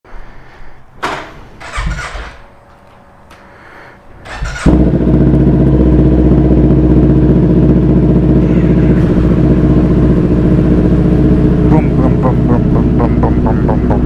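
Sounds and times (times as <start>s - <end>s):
motorcycle engine starting and idling: 1.0s - 2.6s, 4.2s - 14.0s.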